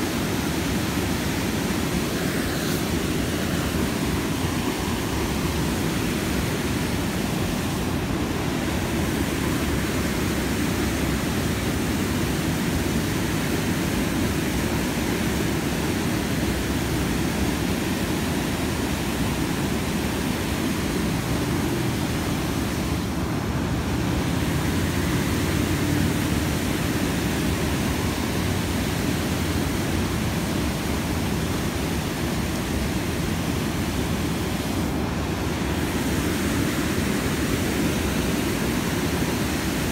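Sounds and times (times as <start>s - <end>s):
water rushing over spillway: 0.0s - 39.9s.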